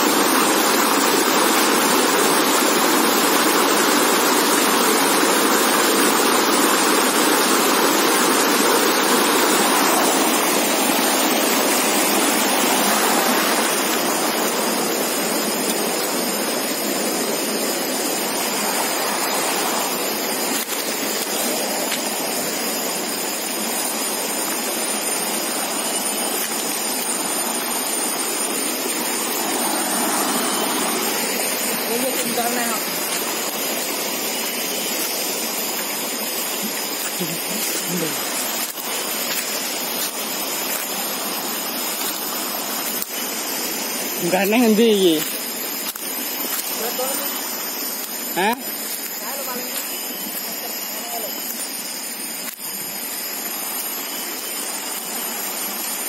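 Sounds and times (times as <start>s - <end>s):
water cascading over boulders: 0.0s - 56.0s.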